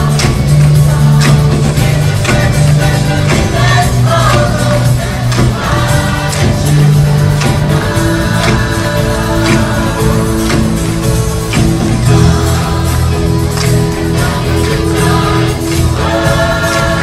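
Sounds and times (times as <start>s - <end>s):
choir singing in unison: 0.0s - 17.0s
live band with steady beat: 0.0s - 17.0s.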